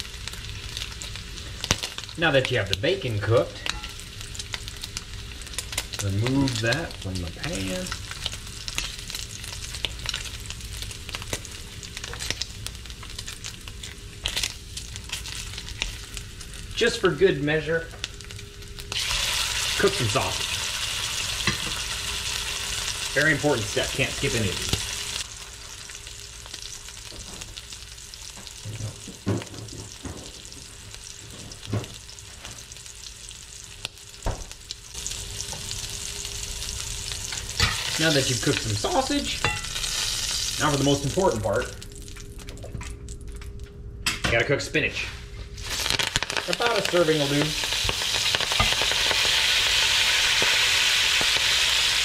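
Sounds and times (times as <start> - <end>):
bacon sizzling and popping: 0.0 - 43.7, 45.6 - 52.0.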